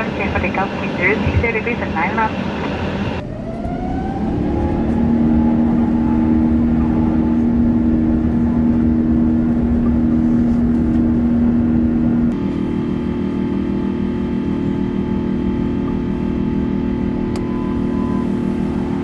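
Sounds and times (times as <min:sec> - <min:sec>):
jet engines spooling up: 0:00.0 - 0:19.0.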